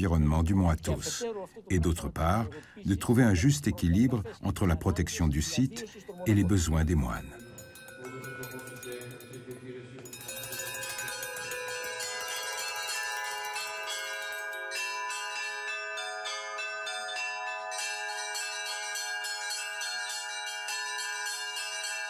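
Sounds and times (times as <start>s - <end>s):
bells ringing rapidly: 1.8s - 22.0s.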